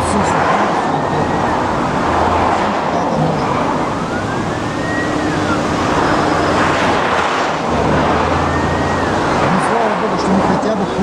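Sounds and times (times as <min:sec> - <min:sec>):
car road noise: 0:00.0 - 0:11.0
faint siren wailing: 0:00.0 - 0:11.0.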